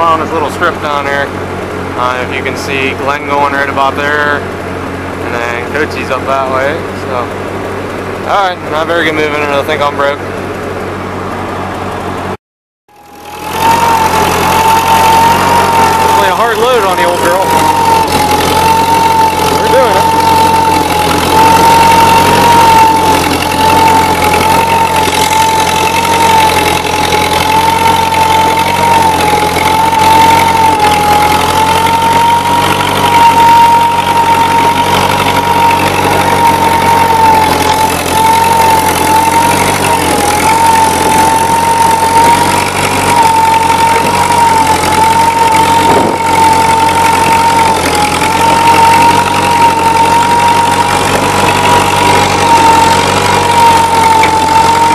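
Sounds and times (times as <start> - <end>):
high whine: 0.0 - 54.9
tractor engine under load: 0.0 - 54.9.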